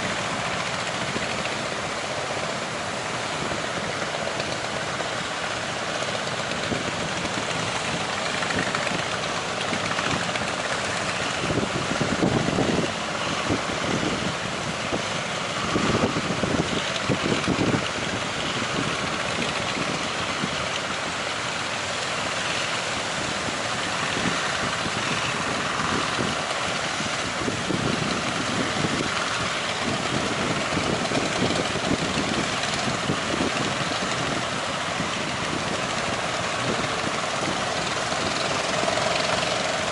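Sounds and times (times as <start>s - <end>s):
engine running: 0.0s - 39.9s
strong wind: 0.0s - 39.9s
waves: 0.0s - 39.9s
wind buffeting microphone: 0.0s - 39.9s.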